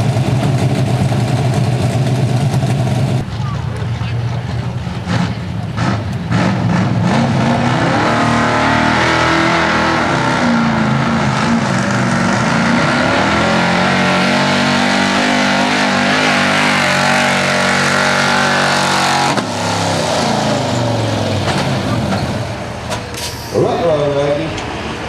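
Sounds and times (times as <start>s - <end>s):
truck engine at high revs: 0.0s - 25.0s.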